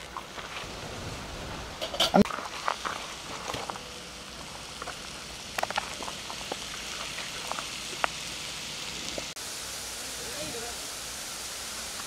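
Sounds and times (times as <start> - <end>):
food sizzling in hot pan: 0.0 - 12.0.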